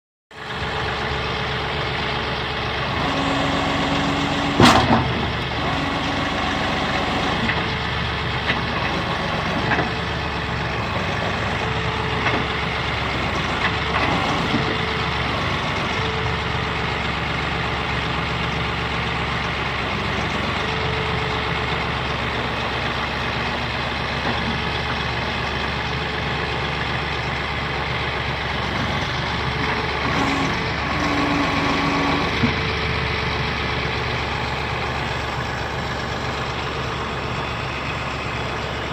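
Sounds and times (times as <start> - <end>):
tractor diesel engine idling: 0.3 - 38.9.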